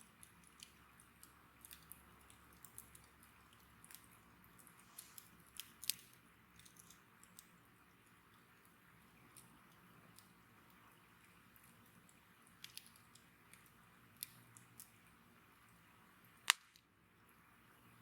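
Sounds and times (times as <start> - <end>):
bonfire crackling: 0.0 - 17.8
faint hiss: 3.3 - 18.0.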